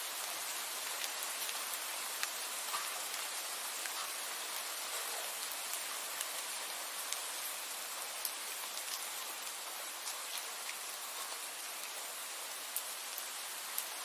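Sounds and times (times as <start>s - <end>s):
rain hiss: 0.0s - 14.0s
raindrops ticking on a surface: 0.0s - 14.0s.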